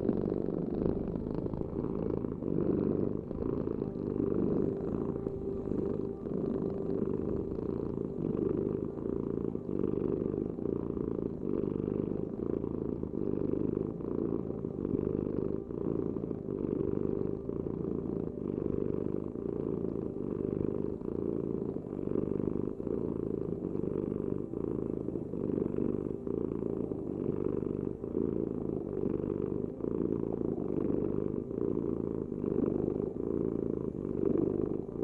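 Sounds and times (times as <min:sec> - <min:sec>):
cat purring: 0:00.0 - 0:35.0.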